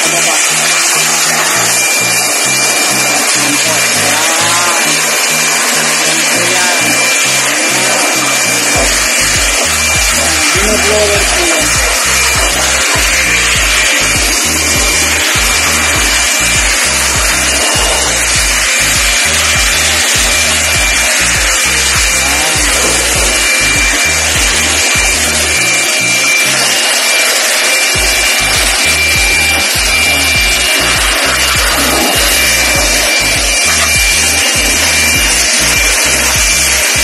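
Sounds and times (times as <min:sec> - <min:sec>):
electric blower running: 0:00.0 - 0:37.0.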